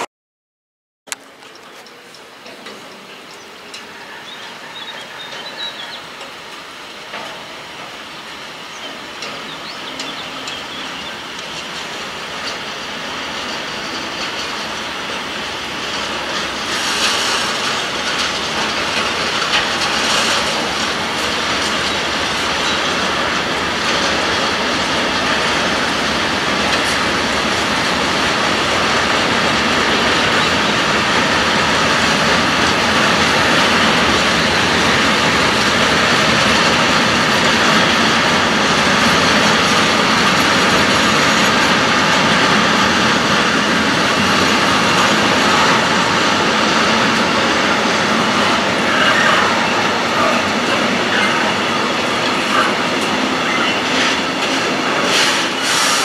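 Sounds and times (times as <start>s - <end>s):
freight train wheels on rails: 1.1s - 56.0s.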